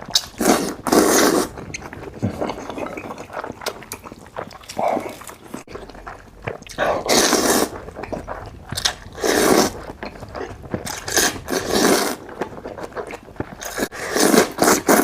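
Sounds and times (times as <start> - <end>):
person biting and chewing food: 0.0 - 15.0.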